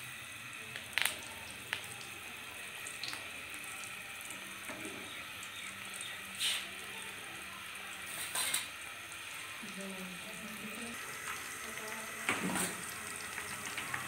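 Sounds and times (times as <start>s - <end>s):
samosas sizzling in oil: 0.0s - 14.0s
oil crackling and popping: 0.1s - 9.9s, 10.7s - 14.0s.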